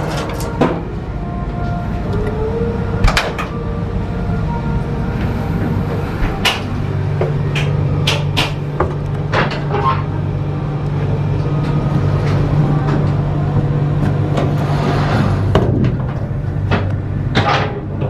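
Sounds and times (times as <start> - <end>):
train coach low drone: 0.0 - 18.0.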